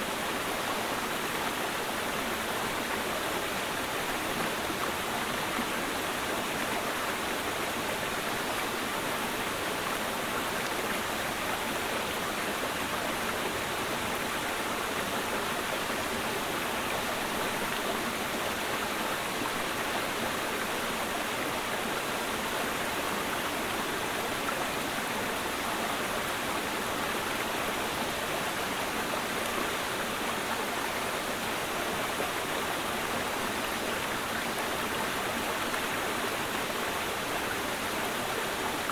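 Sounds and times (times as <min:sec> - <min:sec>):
mountain stream flowing: 0:00.0 - 0:38.9.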